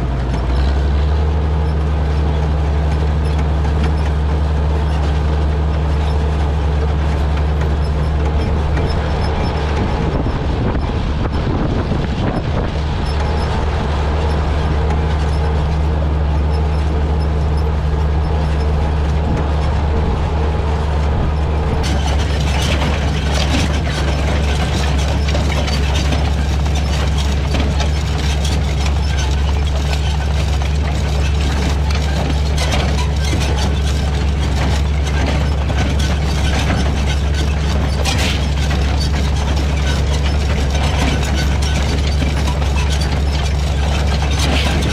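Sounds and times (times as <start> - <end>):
planter mechanism clicking and rattling: 0.0 - 44.9
tractor engine running: 0.0 - 44.9.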